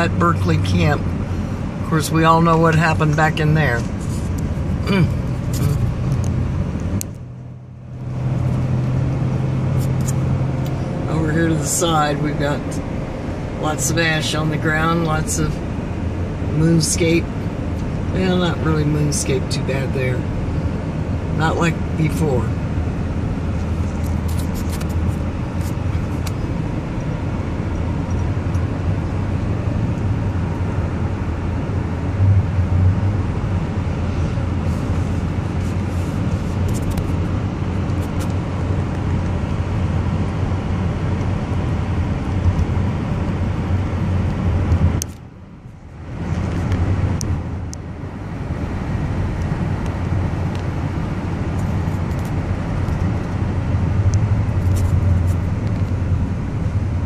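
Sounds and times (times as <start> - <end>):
car engine and tyre drone: 0.0 - 57.0.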